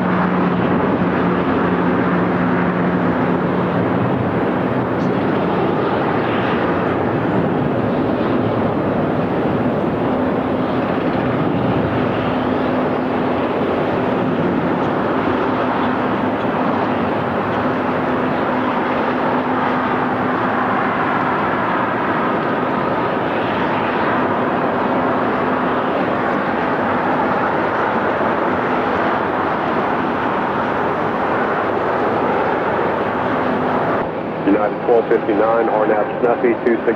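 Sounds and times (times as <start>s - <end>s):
jet engines running: 0.0s - 36.9s.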